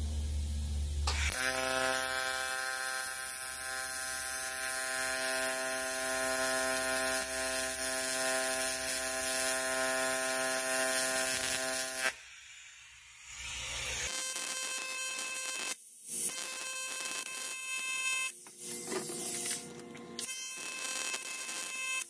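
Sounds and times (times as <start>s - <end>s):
welding arc buzzing and hissing: 0.2s - 22.0s.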